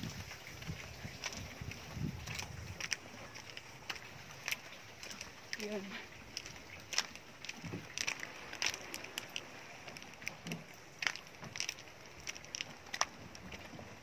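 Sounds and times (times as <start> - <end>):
footsteps crunching over rocks: 0.0 - 14.0.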